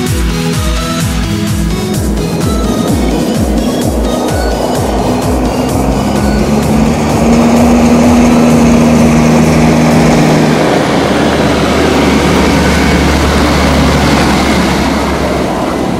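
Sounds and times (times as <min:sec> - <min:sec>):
tractor diesel engine: 0:00.0 - 0:15.9.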